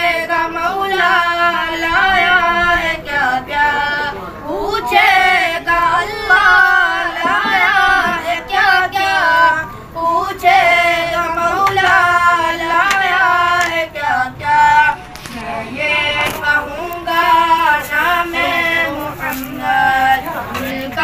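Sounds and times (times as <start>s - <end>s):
high voice singing devotional song: 0.0s - 21.0s.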